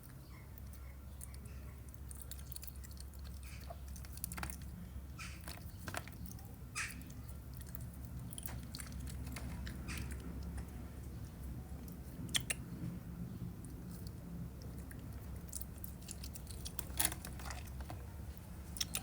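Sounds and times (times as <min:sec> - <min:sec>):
animal chewing food: 0:00.0 - 0:19.0.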